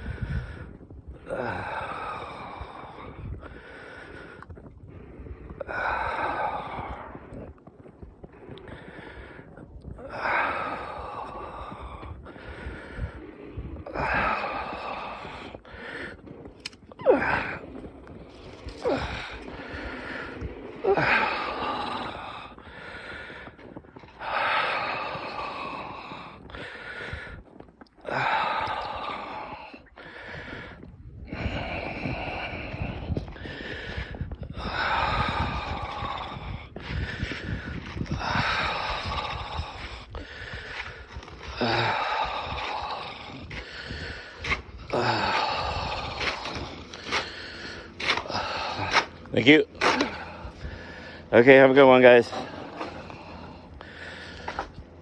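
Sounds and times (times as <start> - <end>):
person breathing out heavily: 0.0 - 55.0
wind rumble on microphone: 0.0 - 55.0.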